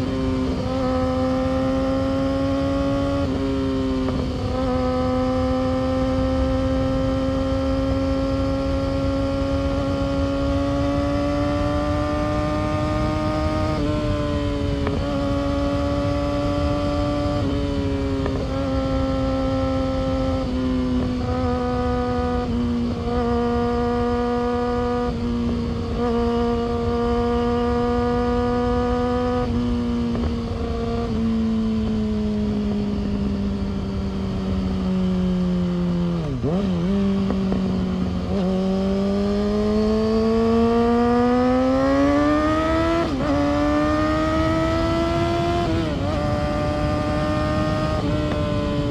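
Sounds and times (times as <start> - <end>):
motorcycle engine at high revs: 0.0 - 48.9.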